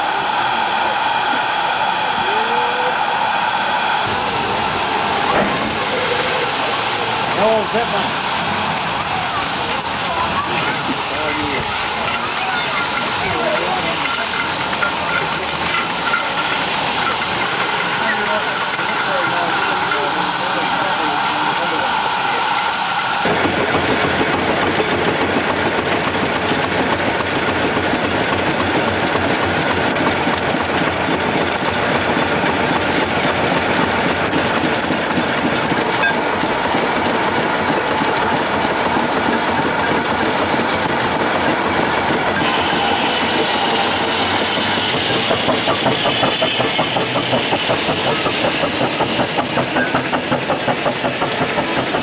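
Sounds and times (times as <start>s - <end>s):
steam engine beating: 0.0s - 52.0s.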